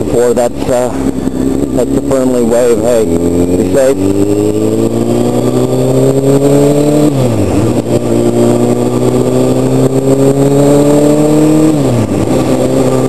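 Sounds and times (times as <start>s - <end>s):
sportbike engine accelerating: 0.0s - 13.0s.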